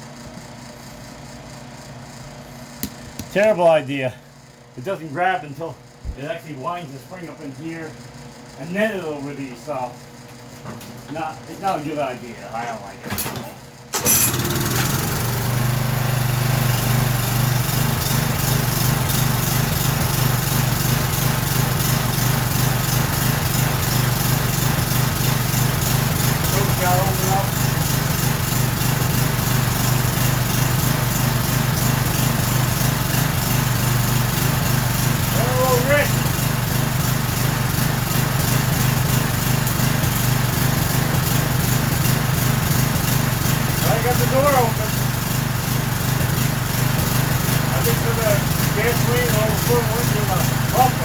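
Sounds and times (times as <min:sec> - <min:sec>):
lawn mower engine running: 0:07.9 - 0:51.0.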